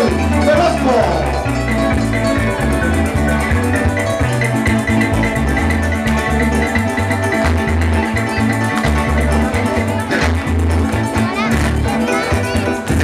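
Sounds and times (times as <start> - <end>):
maracas shaking: 0.0 - 13.0
plucked string music: 0.0 - 13.0
pulsing bass line: 0.0 - 13.0.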